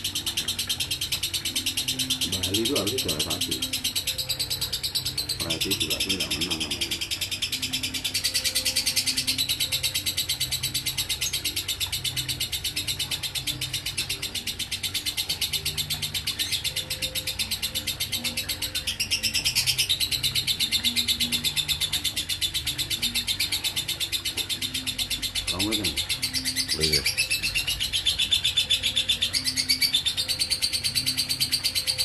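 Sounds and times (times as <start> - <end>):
lovebird chattering trill: 0.0 - 32.0.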